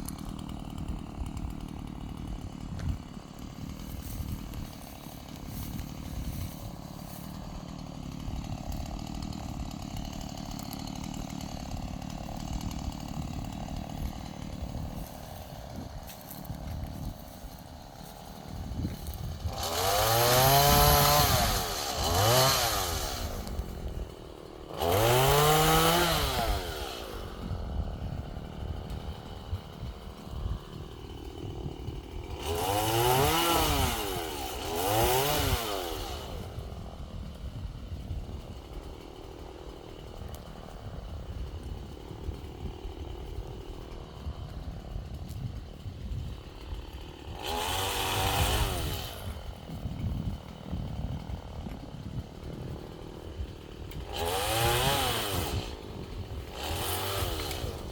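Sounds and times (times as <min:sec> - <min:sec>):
chainsaw engine revving: 0:00.0 - 0:57.9
chainsaw idling: 0:00.0 - 0:57.9.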